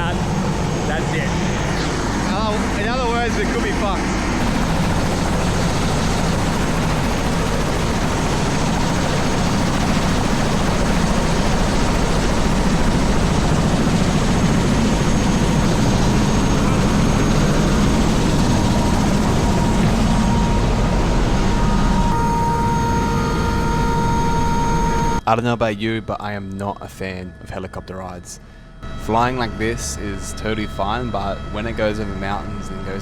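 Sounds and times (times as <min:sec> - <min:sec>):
helicopter engine and rotor noise: 0:00.0 - 0:33.0
steady whine: 0:00.0 - 0:33.0.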